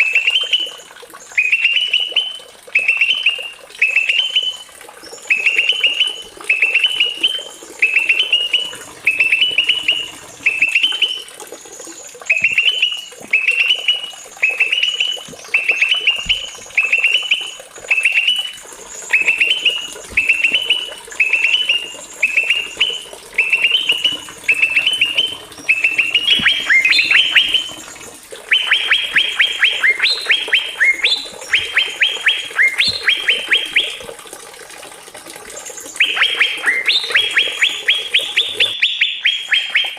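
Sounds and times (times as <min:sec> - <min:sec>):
small songbird singing: 0:01.4 - 0:11.2, 0:12.3 - 0:27.9, 0:28.5 - 0:34.0, 0:35.9 - 0:39.9.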